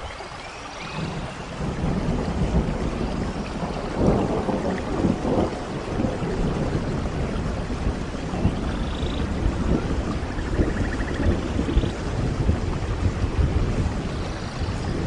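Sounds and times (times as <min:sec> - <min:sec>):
rain falling: 0:00.0 - 0:15.0
low rolling thunder: 0:01.0 - 0:15.0.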